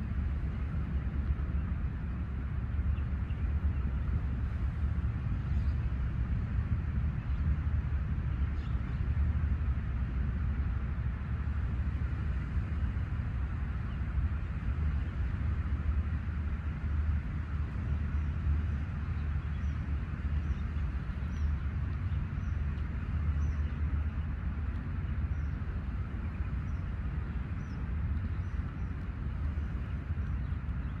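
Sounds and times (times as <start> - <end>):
steady noisy background: 0.0 - 31.0
wind rumbling on microphone: 0.0 - 31.0.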